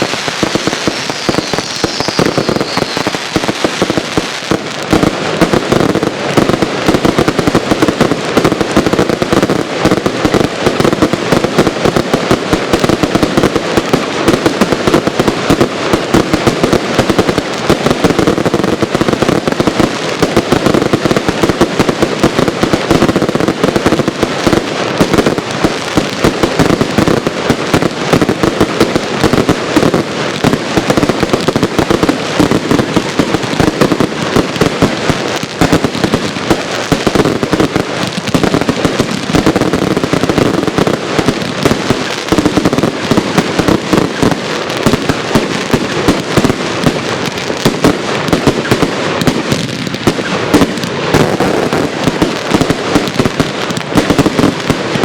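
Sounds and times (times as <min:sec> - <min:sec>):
firework barrage cracks and bangs: 0:00.0 - 0:55.0.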